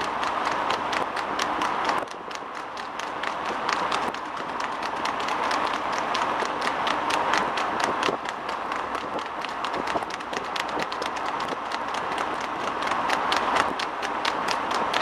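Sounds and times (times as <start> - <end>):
hooves clip-clopping on tarmac: 0.0 - 15.0
steady rushing noise: 0.0 - 15.0.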